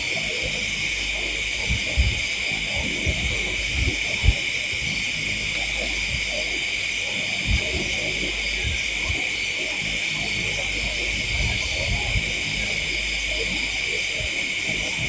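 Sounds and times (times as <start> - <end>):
dull low thumps: 0.0 - 15.0
insect chorus drone: 0.0 - 15.0.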